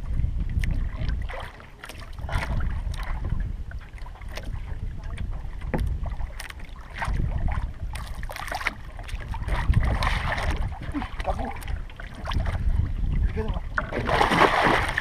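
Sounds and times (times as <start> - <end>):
water sloshing against hull: 0.0 - 15.0
wind buffeting microphone: 0.0 - 15.0
knocks and splashes: 0.5 - 15.0.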